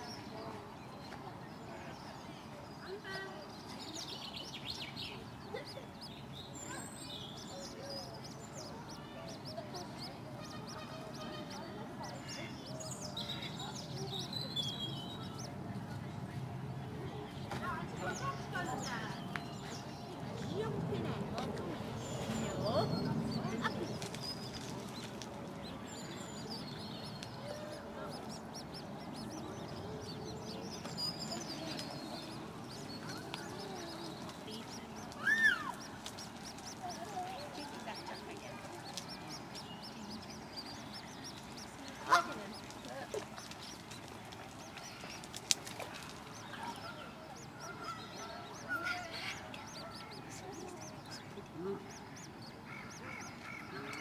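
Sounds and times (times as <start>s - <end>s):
chicks peeping: 3.5s - 15.8s, 17.4s - 54.0s.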